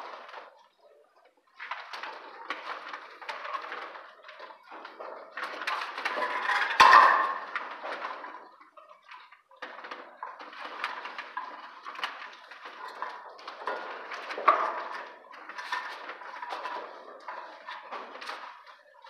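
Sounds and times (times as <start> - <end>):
wires scraping and rustling: 0.0 - 19.0.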